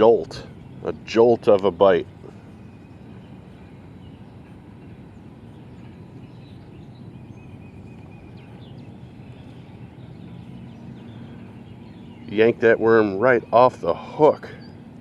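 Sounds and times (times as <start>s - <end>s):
faint bird chirps: 0.0s - 15.0s
low outdoor background noise: 0.0s - 15.0s.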